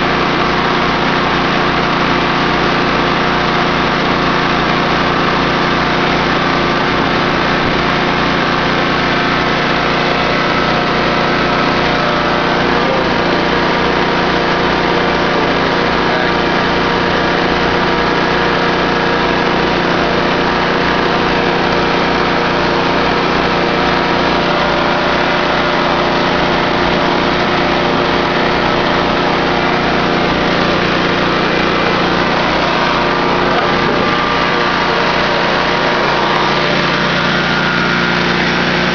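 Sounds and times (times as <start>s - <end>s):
electric air compressor running: 0.0s - 38.9s
generator running: 0.0s - 38.9s.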